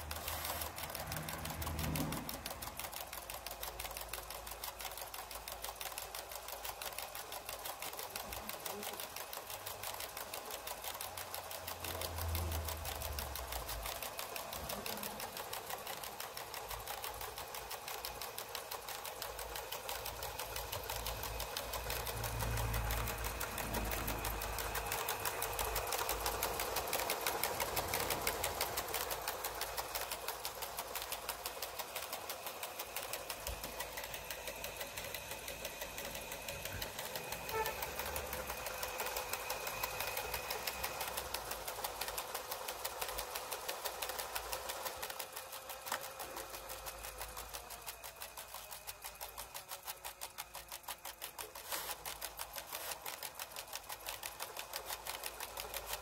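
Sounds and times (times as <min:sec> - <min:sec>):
rapid mechanical ticking: 0:00.0 - 0:56.0.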